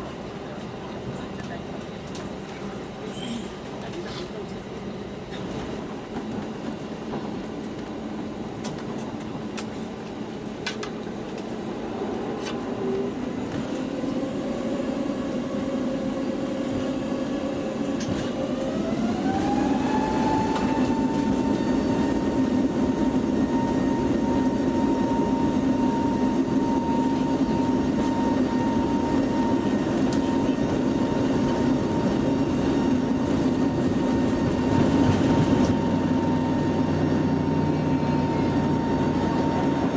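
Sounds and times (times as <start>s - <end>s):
airliner cabin rumble: 0.0s - 39.9s
jet engine whine rising: 4.7s - 39.9s.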